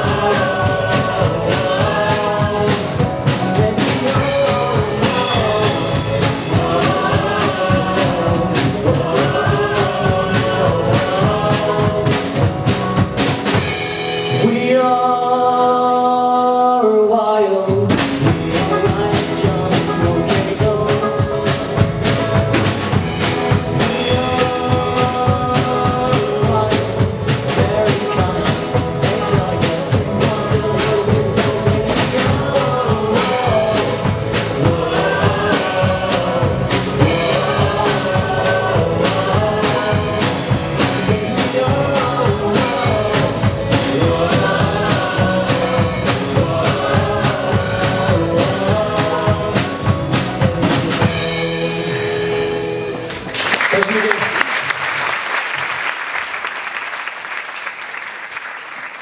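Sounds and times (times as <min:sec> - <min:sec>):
drum kit beat: 0:00.0 - 0:15.0, 0:17.7 - 0:55.2
live band playing pop-rock: 0:00.0 - 0:16.6, 0:17.6 - 0:55.1.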